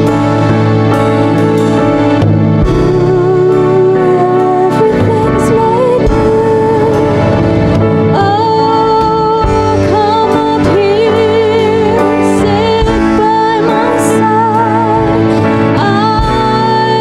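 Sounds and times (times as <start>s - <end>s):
sustained keyboard chords: 0.0s - 17.0s
woman singing with vibrato: 2.7s - 17.0s.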